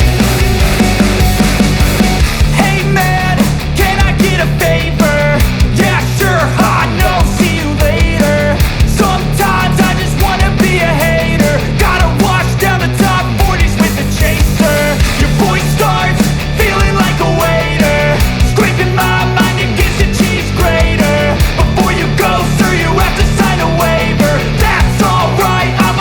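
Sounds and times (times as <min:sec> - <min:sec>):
loud rock music: 0:00.0 - 0:26.0
steady drum beat: 0:00.0 - 0:26.0.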